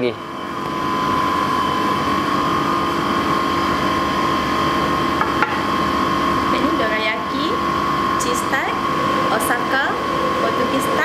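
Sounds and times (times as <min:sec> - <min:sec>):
machine hum with high whine: 0:00.0 - 0:11.0.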